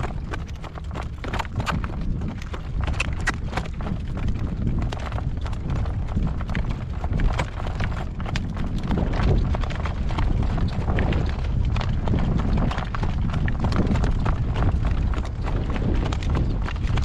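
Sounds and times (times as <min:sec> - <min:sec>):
horse hooves clip-clopping on road: 0:00.0 - 0:17.0
wind rumble on microphone: 0:00.0 - 0:17.0.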